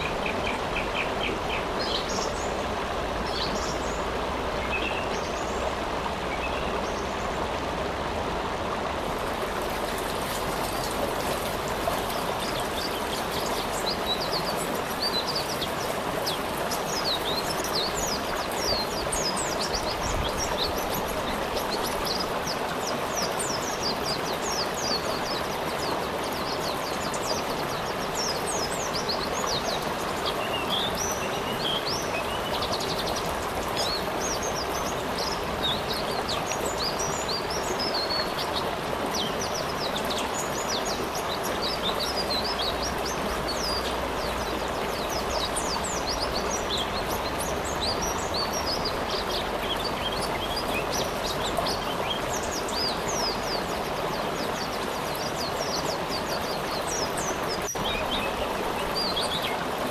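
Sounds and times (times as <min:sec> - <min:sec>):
birds chirping: 0:00.0 - 0:07.5, 0:09.1 - 0:59.9
rushing water: 0:00.0 - 0:59.9.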